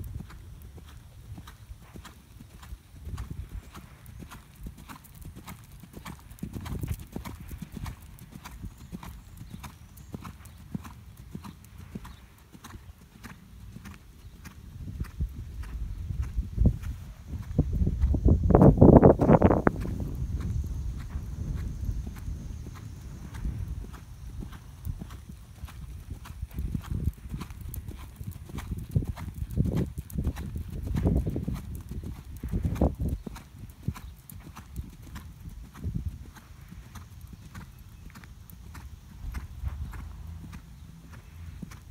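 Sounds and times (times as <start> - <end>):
horse trotting on sand: 0.0 - 41.9.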